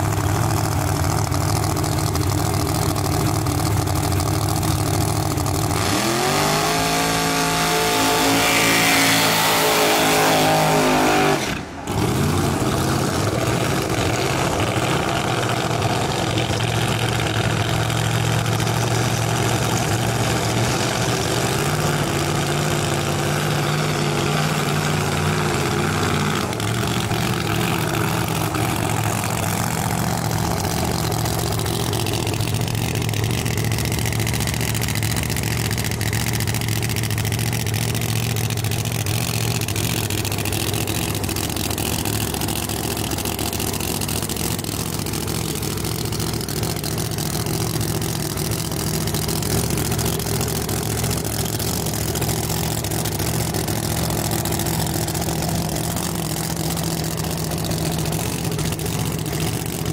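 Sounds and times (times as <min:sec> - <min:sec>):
car engine idling: 0:00.0 - 0:07.8, 0:11.5 - 0:59.9.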